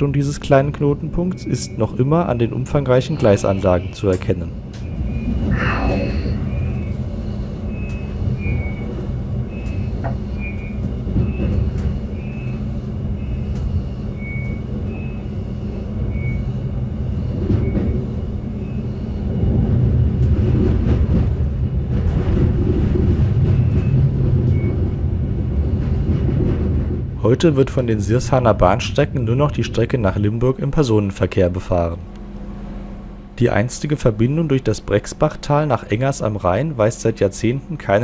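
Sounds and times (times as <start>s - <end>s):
diesel railcar rumbling: 0.0s - 38.0s.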